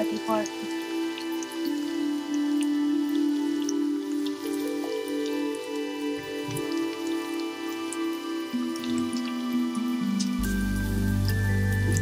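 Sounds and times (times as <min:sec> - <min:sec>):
food frying in oil: 0:00.0 - 0:12.0
soft background music: 0:00.0 - 0:12.0.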